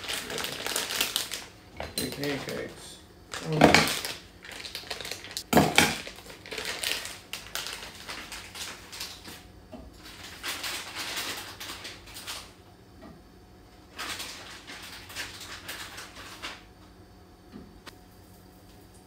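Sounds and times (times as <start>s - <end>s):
plastic bag crinkling: 0.0s - 12.6s, 13.8s - 16.7s.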